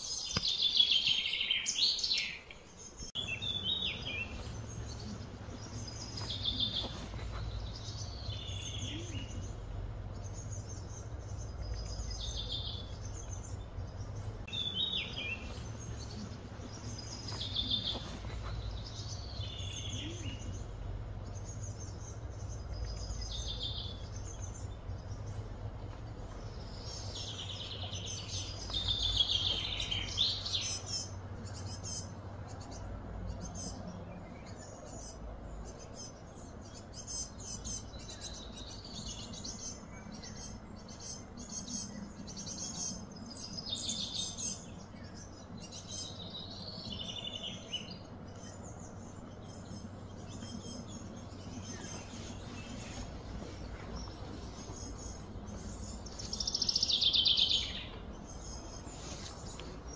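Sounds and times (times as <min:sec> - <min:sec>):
low background hum: 0:00.0 - 0:59.9
small birds chirping: 0:00.0 - 0:59.9.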